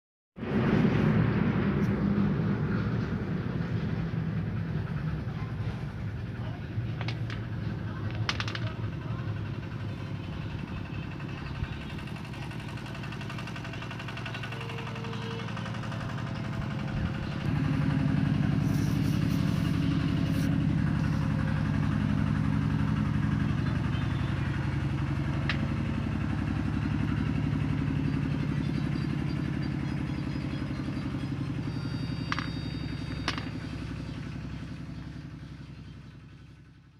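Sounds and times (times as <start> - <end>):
engine running: 0.4 - 36.9.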